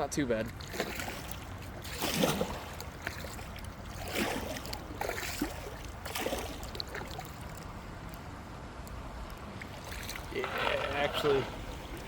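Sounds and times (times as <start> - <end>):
paddle splashing in water: 0.5 - 7.7, 9.6 - 12.0.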